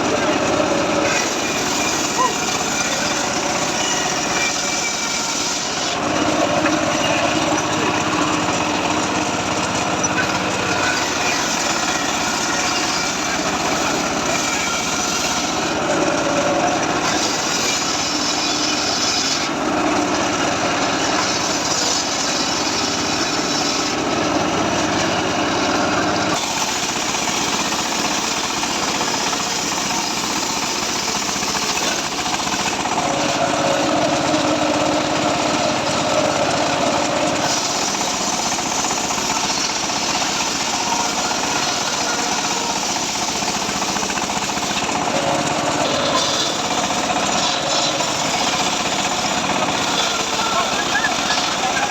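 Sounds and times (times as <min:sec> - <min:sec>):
circular sawmill cutting wood: 0:00.0 - 0:51.9.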